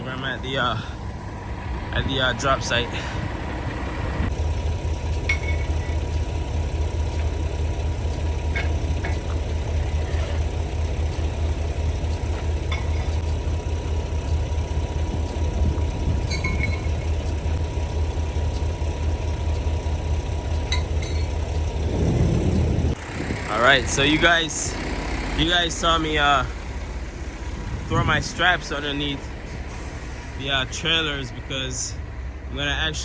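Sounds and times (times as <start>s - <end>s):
diesel truck engine droning: 0.0s - 33.0s.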